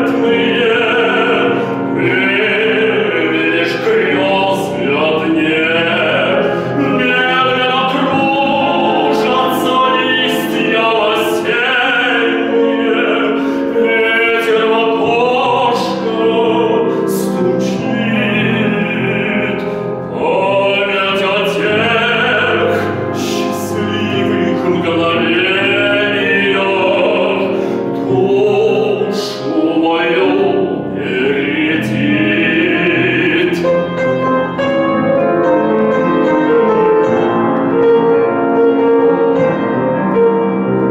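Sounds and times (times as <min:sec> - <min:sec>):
man singing operatically: 0:00.0 - 0:34.8
piano: 0:00.0 - 0:40.9.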